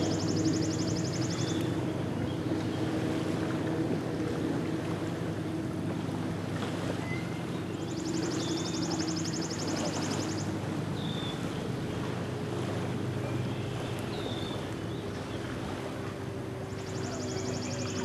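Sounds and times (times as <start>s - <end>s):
distant motorboat engine droning: 0.0s - 18.0s.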